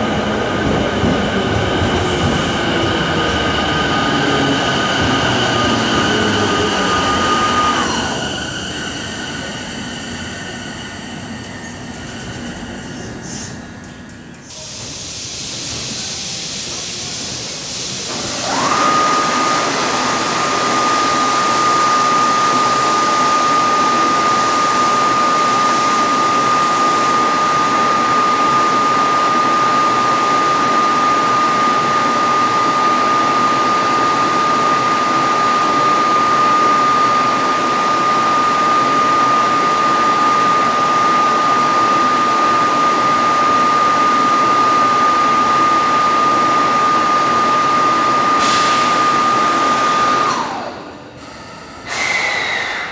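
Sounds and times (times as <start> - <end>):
air compressor whine: 0.0 - 52.9.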